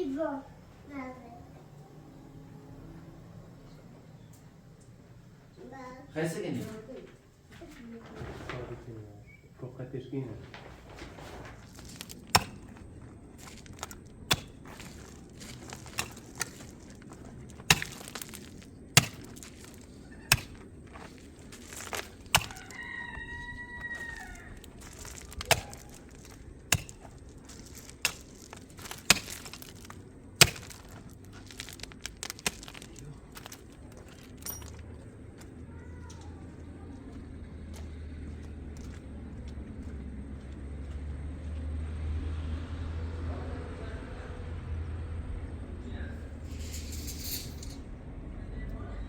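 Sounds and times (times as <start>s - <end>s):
low background hum: 0.0s - 49.0s.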